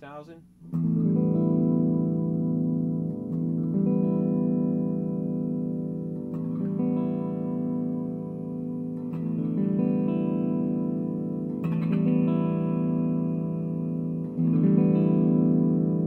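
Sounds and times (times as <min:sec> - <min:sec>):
electric guitar chords strummed: 0:00.0 - 0:16.0.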